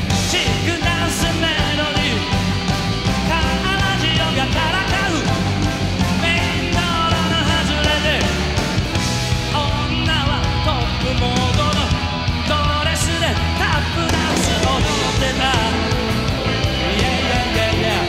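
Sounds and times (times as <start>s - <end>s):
man singing: 0.0s - 8.6s, 9.4s - 18.0s
drums: 0.0s - 18.0s
electric guitar: 0.0s - 18.0s
live rock band: 0.0s - 18.0s.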